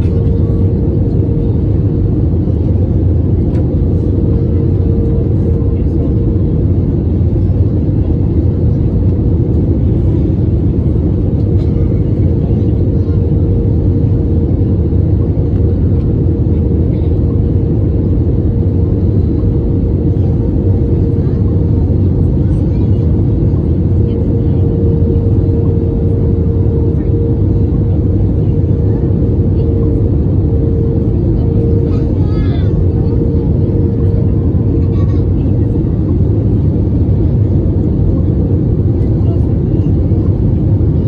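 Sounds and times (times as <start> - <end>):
aircraft cabin engine rumble: 0.0 - 41.0.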